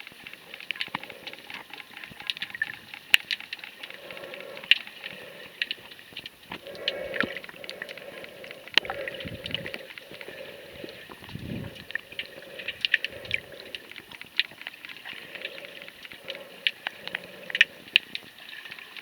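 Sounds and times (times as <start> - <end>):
underwater clicks and crackles: 0.0 - 19.0.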